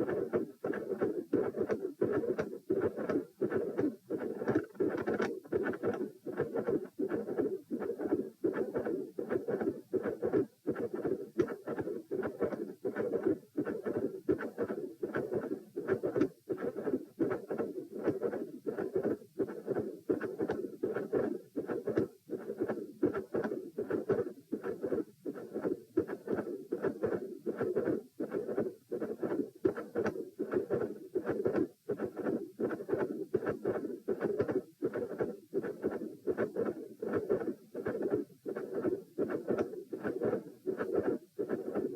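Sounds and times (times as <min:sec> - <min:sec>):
heart murmur: 0:00.0 - 0:41.9
heartbeat: 0:00.0 - 0:41.9.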